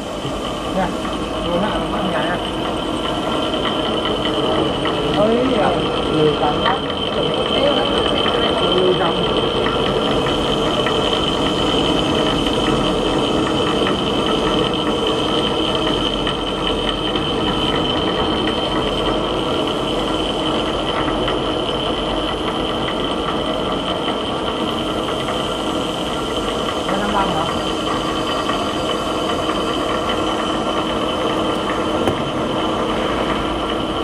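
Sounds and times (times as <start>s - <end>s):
machinery humming with high whine: 0.0s - 34.0s.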